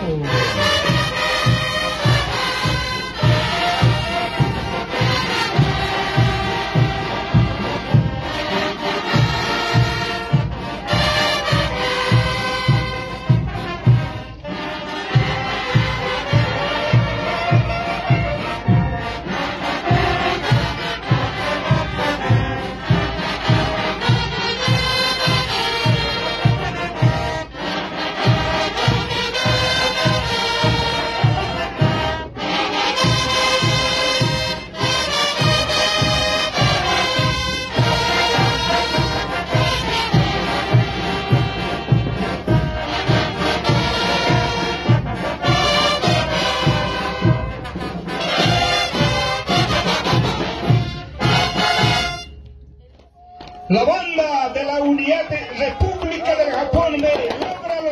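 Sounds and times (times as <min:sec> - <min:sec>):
steady drum beat: 0:00.0 - 0:52.4
brass band playing: 0:00.0 - 0:57.9.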